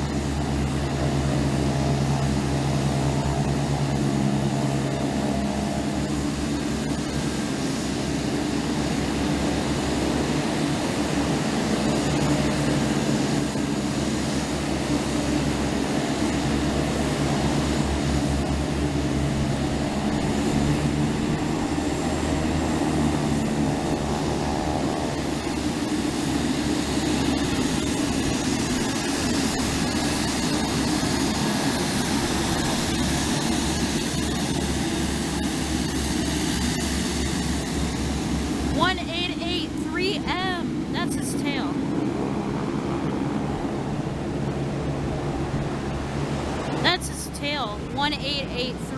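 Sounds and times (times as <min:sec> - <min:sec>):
aircraft engine droning: 0:00.0 - 0:48.9.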